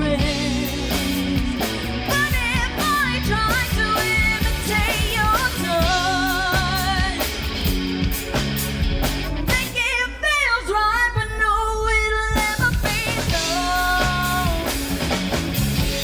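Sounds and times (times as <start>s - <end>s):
rock band playing: 0.0s - 10.2s, 12.4s - 16.0s.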